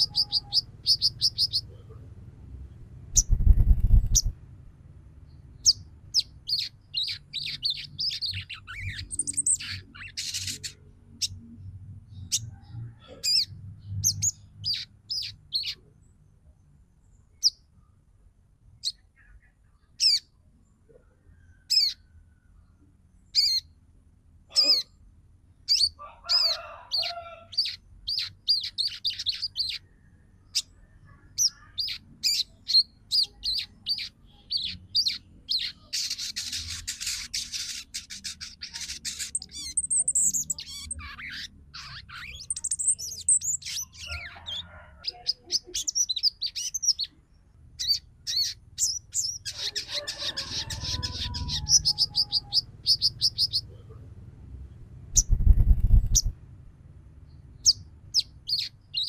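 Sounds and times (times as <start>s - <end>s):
bird chirping: 0.0s - 4.4s, 5.2s - 18.0s, 18.8s - 23.8s, 24.5s - 54.0s, 54.6s - 56.4s, 57.2s - 59.0s.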